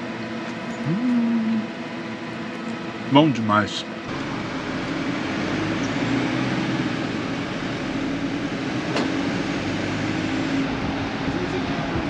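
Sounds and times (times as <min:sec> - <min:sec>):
constant low hum: 0:00.0 - 0:12.0
vehicle engine and road noise: 0:00.0 - 0:12.0.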